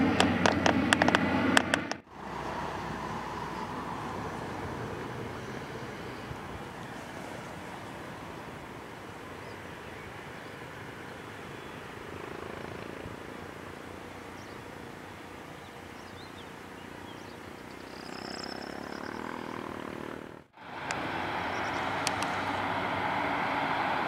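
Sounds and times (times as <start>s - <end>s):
distant airport apron noise: 0.0s - 24.0s
turboprop engines droning: 0.0s - 24.0s.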